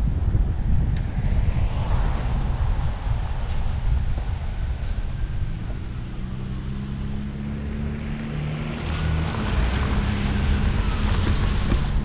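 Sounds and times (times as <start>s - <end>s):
wind buffeting microphone: 0.0s - 7.2s, 8.4s - 12.0s
car engine and road hum: 0.0s - 12.0s.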